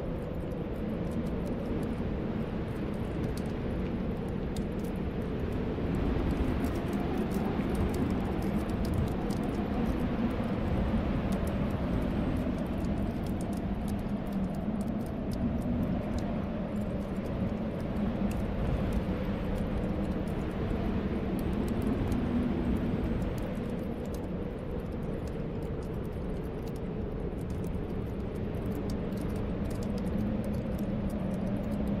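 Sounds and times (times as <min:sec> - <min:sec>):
howling wind: 0:00.0 - 0:32.0.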